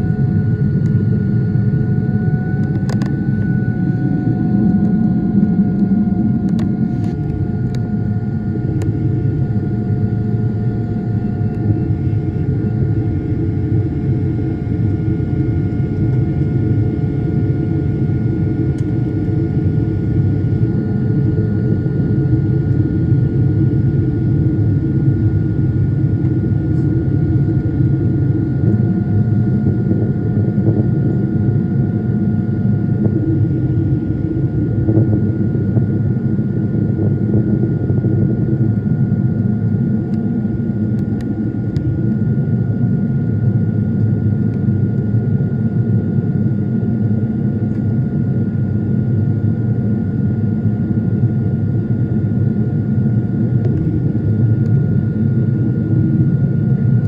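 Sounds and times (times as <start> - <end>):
jet engines and airflow roar: 0.0 - 57.0
thin steady whining tones: 0.0 - 57.0.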